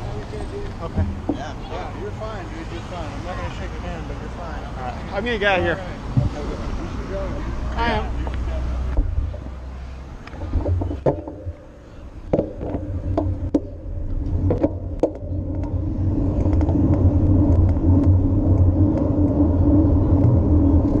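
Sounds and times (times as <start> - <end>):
bicycle road and wind rumble: 0.0 - 21.0.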